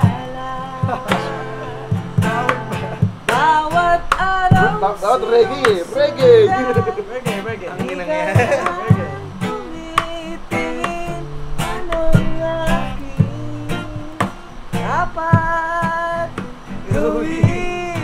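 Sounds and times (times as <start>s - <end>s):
acoustic guitar strumming: 0.0s - 18.0s
man singing: 0.0s - 18.0s.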